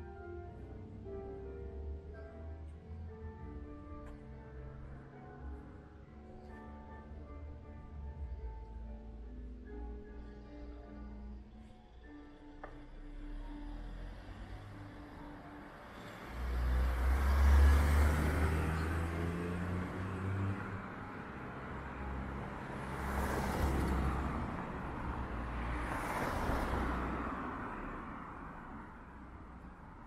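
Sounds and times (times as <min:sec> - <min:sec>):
cars passing with tyre noise: 0:00.0 - 0:30.0.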